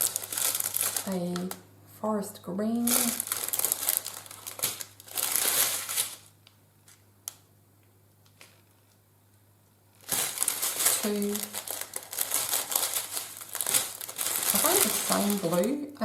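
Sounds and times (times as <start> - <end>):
plastic packets crinkling: 0.0 - 1.6, 2.8 - 7.4, 8.3 - 9.0, 9.9 - 16.0.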